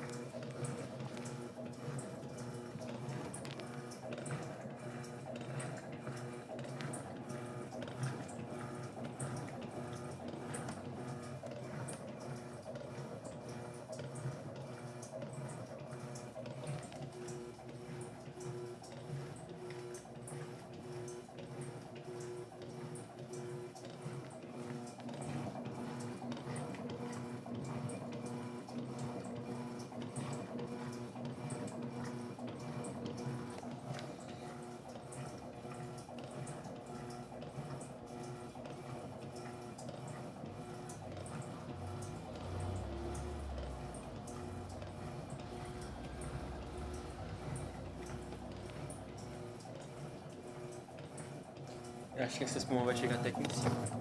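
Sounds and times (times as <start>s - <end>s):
washing machine motor hum: 0.0s - 54.0s
water sloshing in washing machine: 0.0s - 54.0s.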